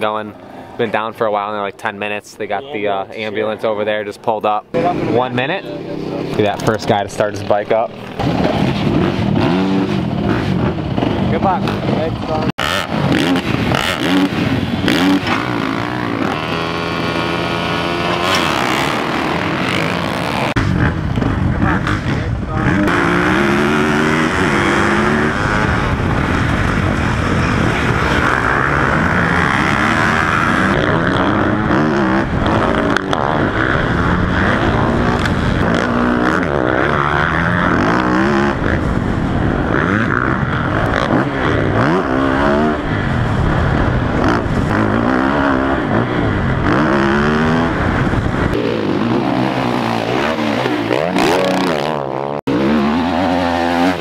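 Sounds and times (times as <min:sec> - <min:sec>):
motocross bike engine revving: 0:00.0 - 0:54.0
other race bikes: 0:00.0 - 0:54.0.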